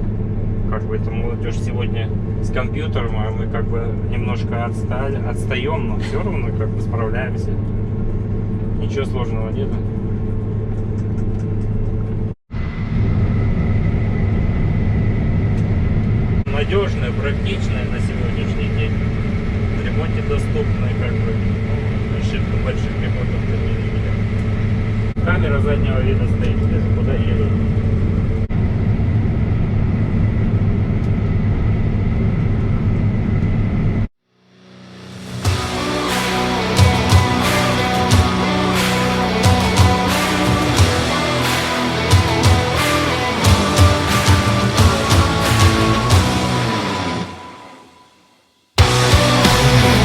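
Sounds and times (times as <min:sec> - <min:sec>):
combine harvester drone: 0:00.0 - 0:48.0, 0:48.8 - 0:50.0
high-pitched whine: 0:00.0 - 0:50.0.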